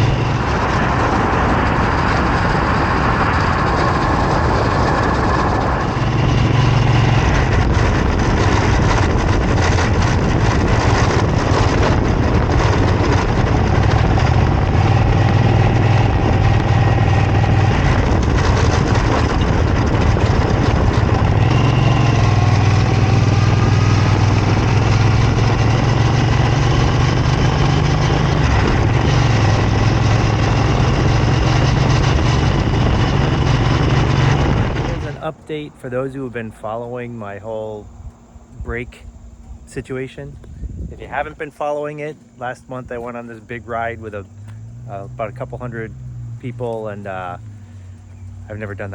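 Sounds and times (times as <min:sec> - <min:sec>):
motorcycle engine running: 0:00.0 - 0:48.9
road noise: 0:00.0 - 0:48.9
rushing wind: 0:00.0 - 0:48.9.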